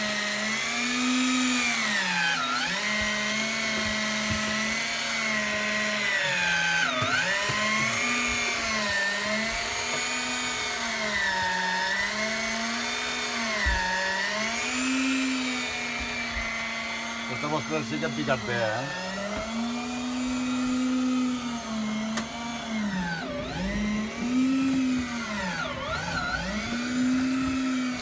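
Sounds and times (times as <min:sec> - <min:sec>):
electric fishing reel motor whine: 0:00.0 - 0:28.0.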